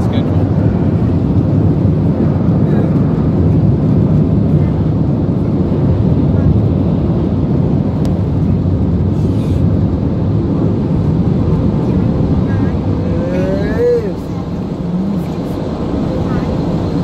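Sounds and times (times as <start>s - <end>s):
car wash rushing rumble: 0.0s - 17.0s.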